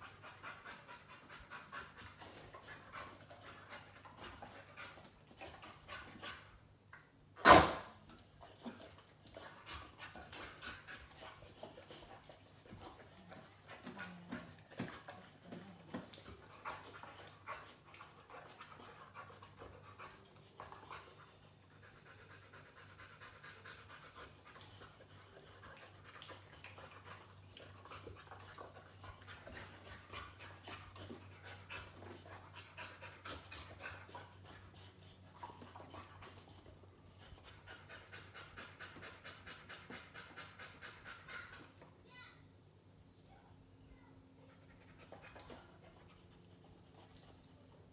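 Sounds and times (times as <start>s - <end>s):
dog panting: 0.0s - 6.8s, 7.8s - 42.0s, 44.4s - 47.9s.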